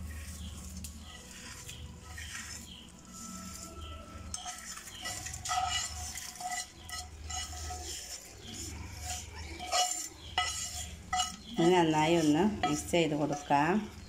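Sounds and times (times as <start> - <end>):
spoon scraping a frying pan: 0.0 - 14.0.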